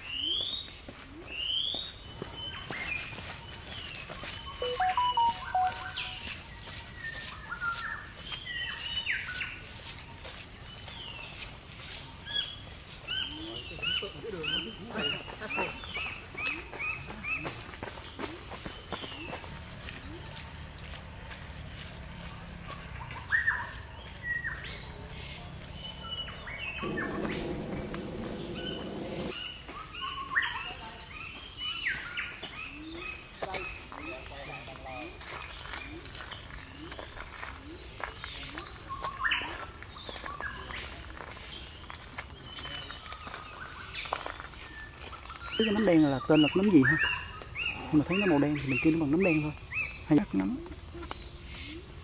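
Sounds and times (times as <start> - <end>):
forest birds whistling: 0.0 - 20.9, 21.8 - 52.0.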